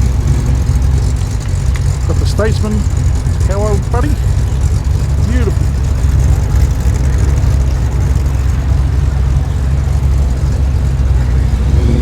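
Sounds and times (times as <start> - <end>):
car engine driving past: 0.0 - 12.0.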